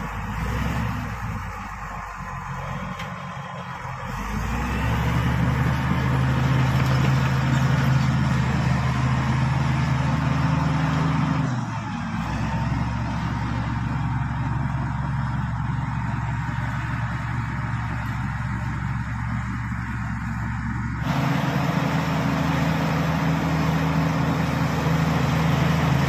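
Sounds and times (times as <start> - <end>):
bulldozer diesel engine under load: 0.0 - 26.0.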